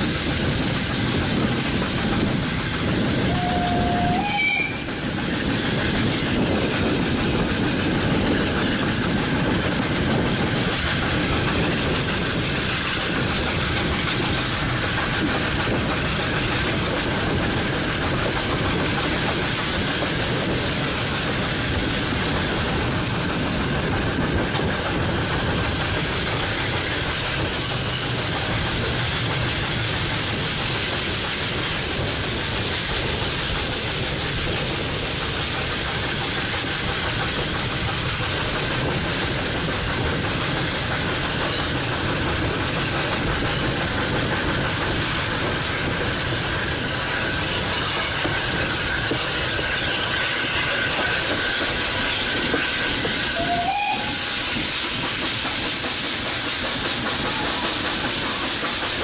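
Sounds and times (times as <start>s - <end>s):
steam locomotive hiss: 0.0s - 59.0s
wheels rumbling on track: 0.0s - 59.0s.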